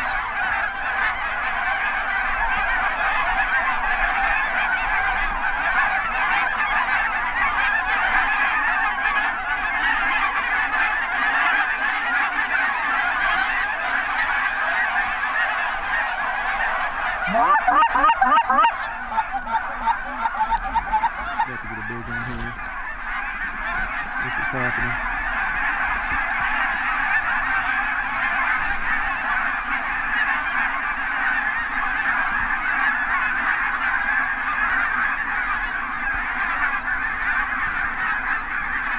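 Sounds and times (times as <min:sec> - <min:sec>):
flock of geese honking: 0:00.0 - 0:38.9
goose rapid rising calls: 0:00.0 - 0:38.9.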